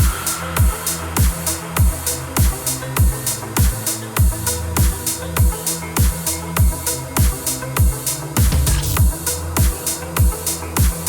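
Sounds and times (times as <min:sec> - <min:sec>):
electronic dance music: 0:00.0 - 0:11.0
heavy kick drum: 0:00.0 - 0:11.0
steady bass line: 0:00.0 - 0:11.0.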